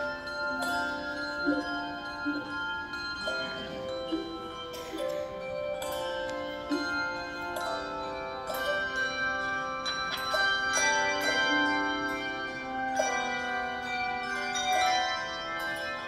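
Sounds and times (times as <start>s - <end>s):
handbell choir playing: 0.0s - 16.0s.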